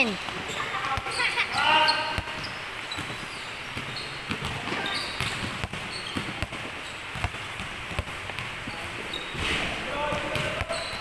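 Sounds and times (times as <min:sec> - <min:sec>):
basketballs bouncing on hard floor: 0:00.1 - 0:11.0.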